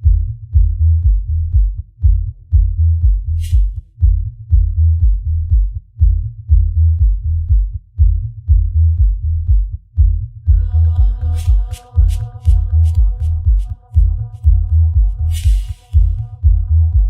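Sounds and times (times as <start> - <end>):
deep pulsing electronic bass line: 0.0 - 17.0.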